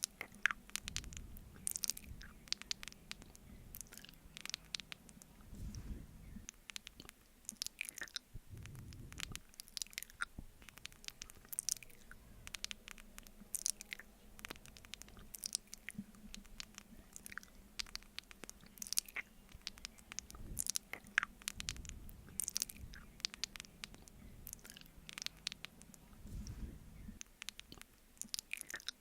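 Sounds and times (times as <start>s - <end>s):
wet sticky mouth clicks and smacks: 0.0s - 5.4s, 6.5s - 26.6s, 27.2s - 29.0s
soft low rumbles: 0.0s - 28.4s.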